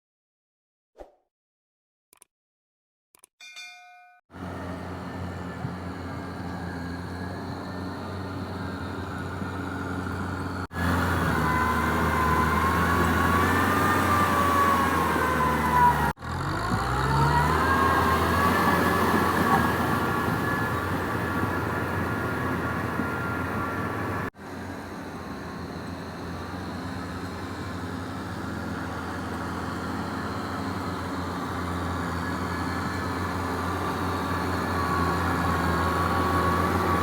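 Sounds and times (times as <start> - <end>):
tractor diesel engine under load: 4.3 - 37.0.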